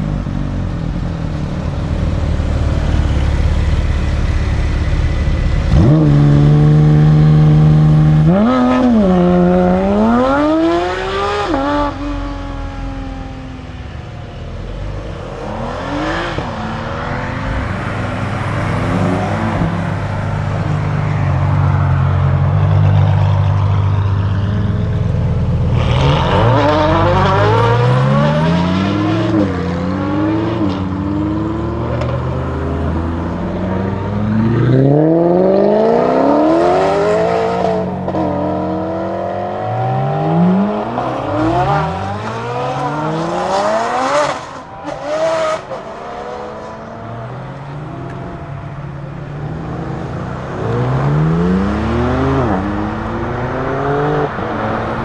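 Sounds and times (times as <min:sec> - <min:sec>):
sports car accelerating hard: 0:00.0 - 0:55.0.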